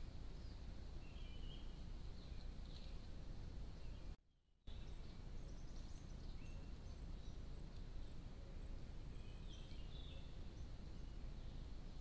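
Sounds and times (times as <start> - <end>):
outdoor ambience rumble and hiss: 0.0 - 12.0
faint bird chirps: 0.3 - 12.0.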